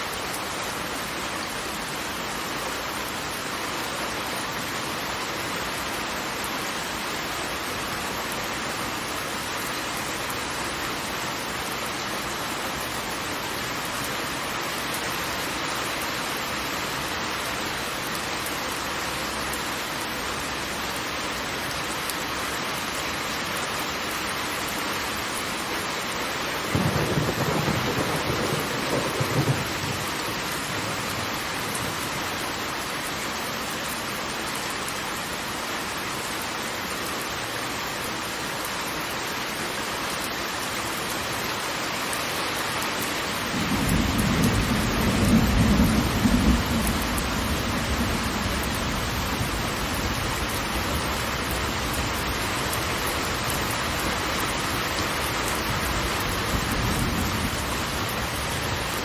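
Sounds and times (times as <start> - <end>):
heavy falling water: 0.0 - 59.0.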